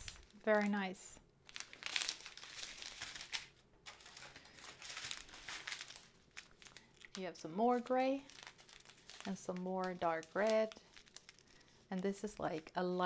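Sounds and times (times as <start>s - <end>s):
plastic bags rustling: 0.0s - 12.8s.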